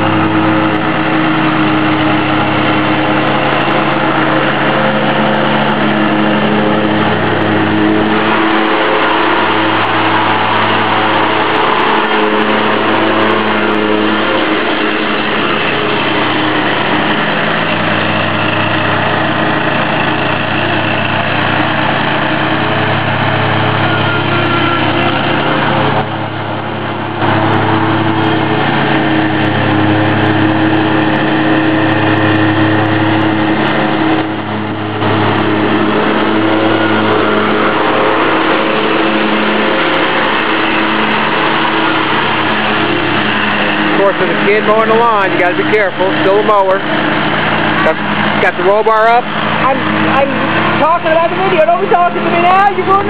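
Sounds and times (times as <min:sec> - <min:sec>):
mower cutting deck whir: 0:00.0 - 0:53.0
riding mower engine drone: 0:00.0 - 0:53.0.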